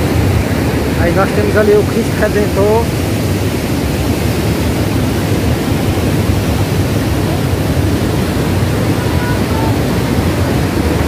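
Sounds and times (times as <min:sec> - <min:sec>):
waterfall rushing over rocks: 0:00.0 - 0:11.0.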